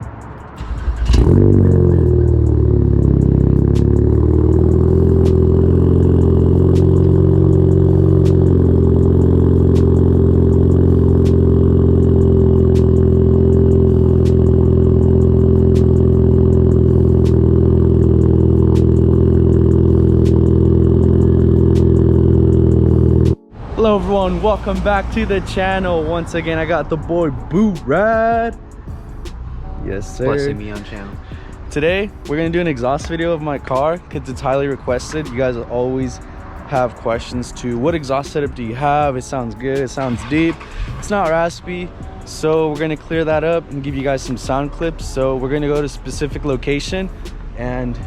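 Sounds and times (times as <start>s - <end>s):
car engine starting and idling: 0.0s - 48.0s.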